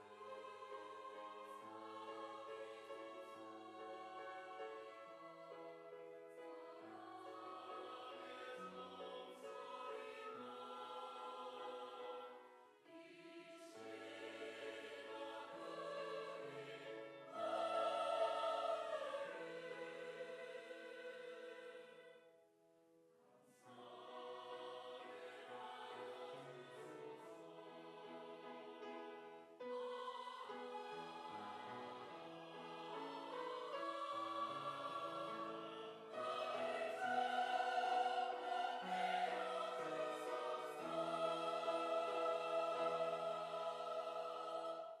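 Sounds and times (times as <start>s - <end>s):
choir singing a hymn: 0.0s - 22.4s, 23.5s - 45.0s.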